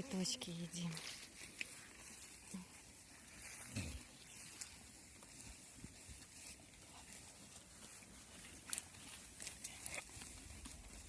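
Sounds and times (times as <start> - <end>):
goats chewing plants: 0.2 - 11.0.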